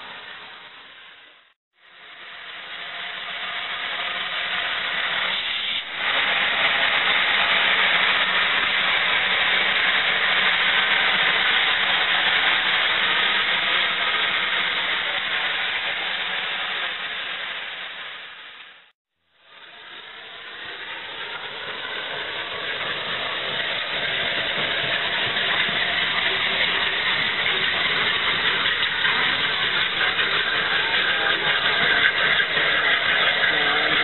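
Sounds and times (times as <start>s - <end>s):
steam locomotive hissing: 0.0s - 18.9s, 19.5s - 34.0s.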